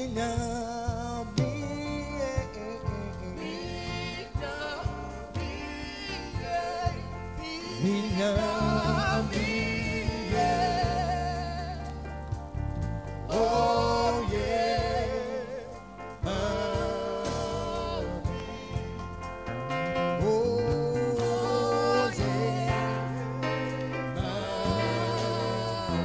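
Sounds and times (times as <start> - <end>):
man singing into microphone: 0.0 - 12.0, 13.3 - 19.0, 20.2 - 26.0
live band playing: 0.4 - 26.0.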